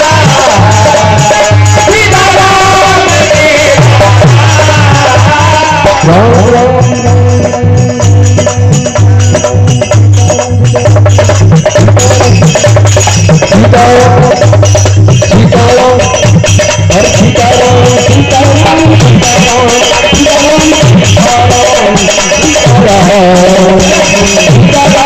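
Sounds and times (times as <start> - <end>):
dholak drumming: 0.0 - 25.0
shaken hand percussion: 0.0 - 25.0.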